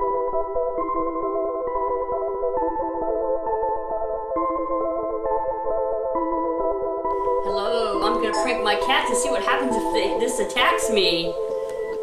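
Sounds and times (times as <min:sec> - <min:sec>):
sustained synthesizer chords: 0:00.0 - 0:12.0.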